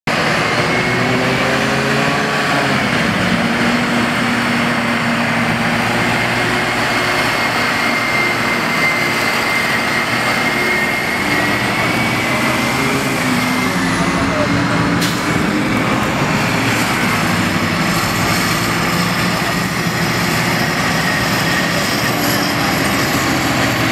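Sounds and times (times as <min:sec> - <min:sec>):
heavy diesel engines running: 0:00.1 - 0:23.9
high whine: 0:00.3 - 0:23.9.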